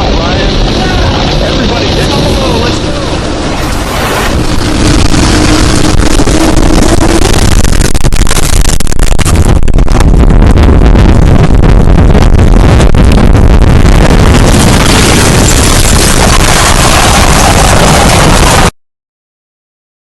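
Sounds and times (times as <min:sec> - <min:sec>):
constant crackling: 0:00.0 - 0:18.7
deep rumble: 0:00.0 - 0:18.8
distorted rushing wind: 0:00.0 - 0:18.8.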